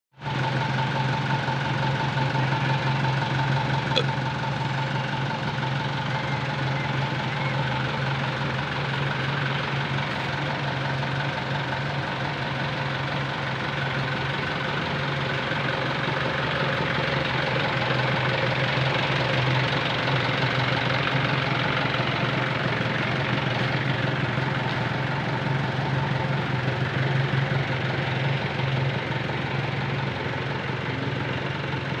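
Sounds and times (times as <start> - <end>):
truck engine running: 0.2 - 32.0.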